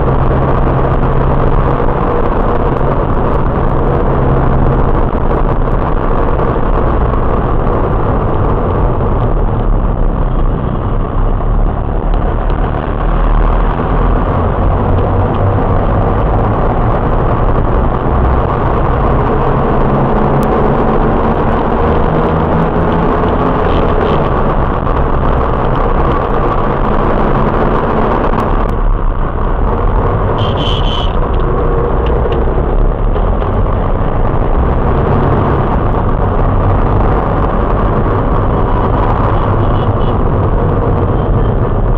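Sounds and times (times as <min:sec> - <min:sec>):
car road and engine noise: 0:00.0 - 0:41.9.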